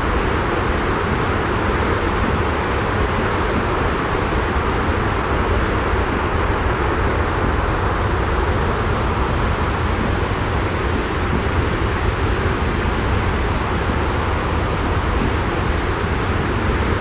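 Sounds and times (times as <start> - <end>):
airliner cabin rumble and hiss: 0.0 - 17.0.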